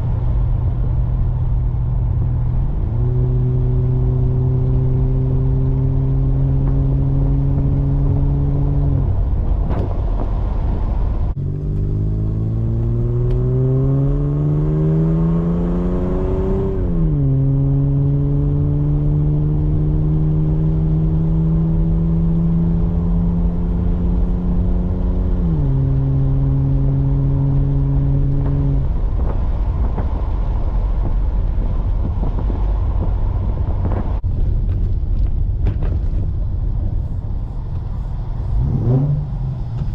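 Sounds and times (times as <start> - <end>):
car exhaust accelerating: 0.0 - 39.9
road rumble: 0.0 - 39.9.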